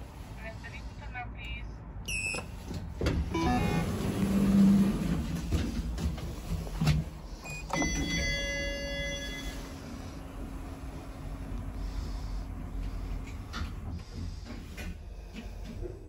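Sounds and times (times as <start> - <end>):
lift machinery rumble: 2.5 - 16.0.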